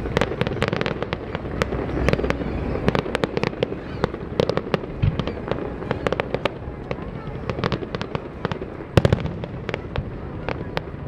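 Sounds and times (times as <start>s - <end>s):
fireworks cracking and popping: 0.0s - 11.0s.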